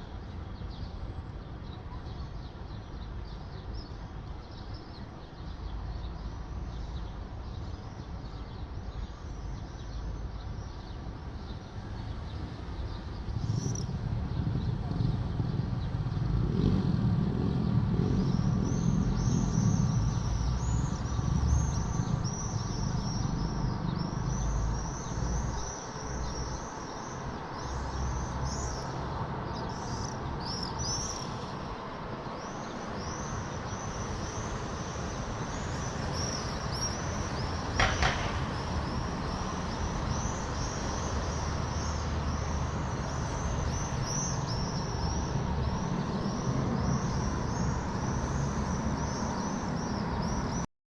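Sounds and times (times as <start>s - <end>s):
city traffic rumble: 0.0s - 50.7s.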